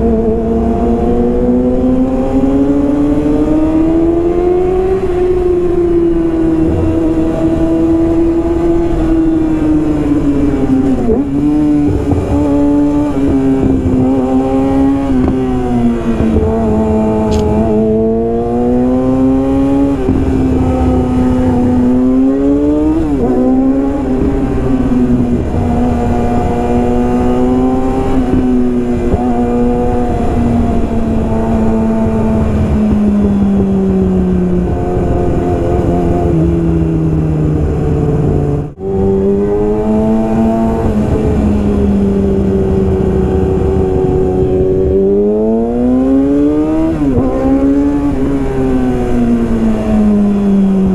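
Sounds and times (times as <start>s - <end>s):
gear changes: 0.0s - 50.9s
motorcycle engine at high revs: 0.0s - 50.9s.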